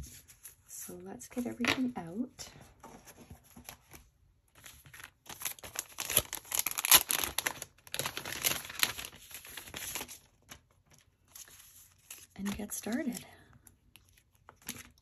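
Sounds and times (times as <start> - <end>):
plastic and paper crinkling: 2.6 - 15.0.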